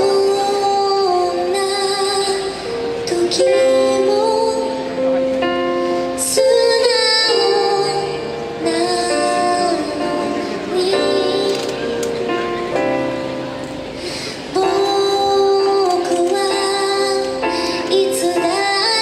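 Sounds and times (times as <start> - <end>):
woman singing: 0.0 - 5.1, 6.0 - 12.1, 14.2 - 19.0
slow ballad by small band: 0.0 - 19.0.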